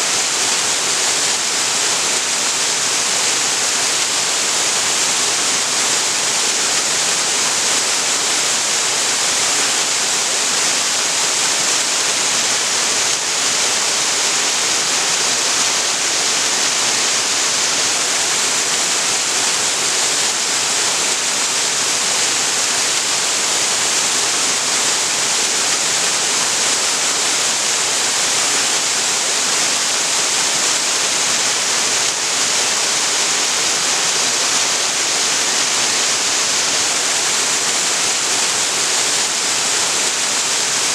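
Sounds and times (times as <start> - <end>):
waterfall pouring onto rock: 0.1 - 40.9.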